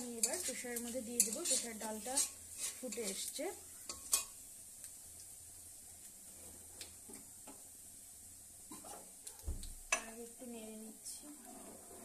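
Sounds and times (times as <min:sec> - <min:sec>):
spices sizzling in oil: 0:00.0 - 0:11.8.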